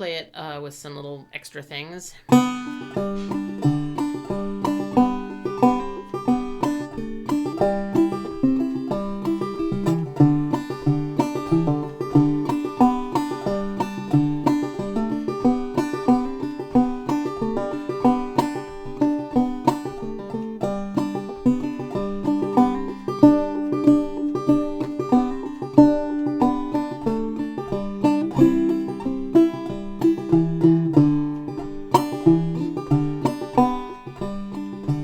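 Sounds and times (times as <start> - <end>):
banjo plucking and strumming: 0.0 - 35.0.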